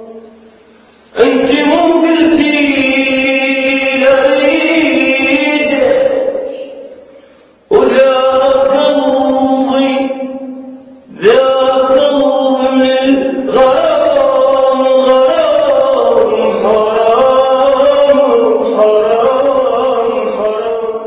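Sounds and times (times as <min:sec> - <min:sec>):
man singing a slow chant: 0:00.0 - 0:00.5, 0:01.1 - 0:07.1, 0:07.7 - 0:21.0.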